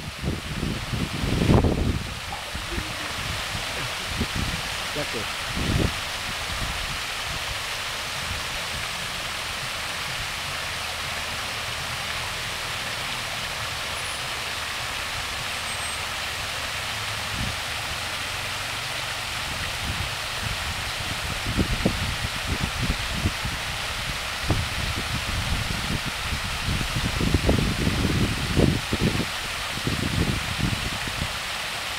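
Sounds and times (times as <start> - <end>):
fountain water splashing into pool: 0.0 - 31.9.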